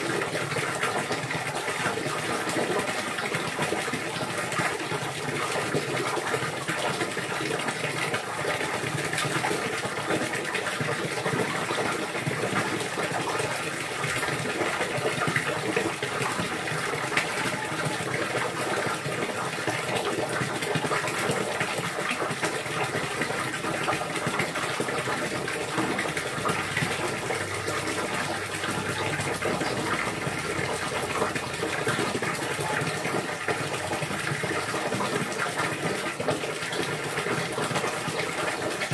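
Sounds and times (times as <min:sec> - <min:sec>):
running splashing water: 0:00.0 - 0:38.9.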